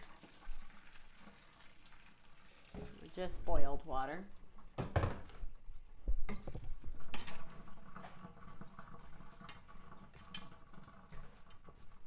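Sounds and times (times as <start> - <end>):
water draining and dripping: 0.0 - 4.7, 6.6 - 12.0.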